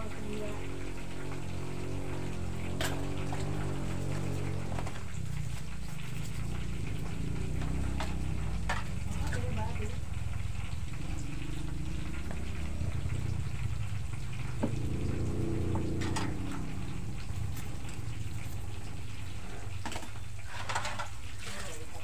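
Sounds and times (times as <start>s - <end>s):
water boiling in a pot: 0.0s - 22.0s
wood fire rumbling: 0.0s - 22.0s.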